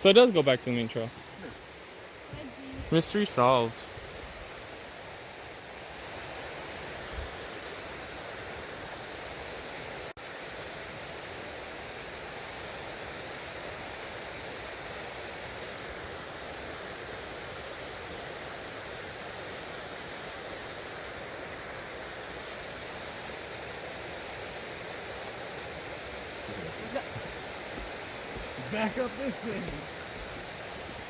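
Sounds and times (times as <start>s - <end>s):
water rushing: 0.0s - 31.0s.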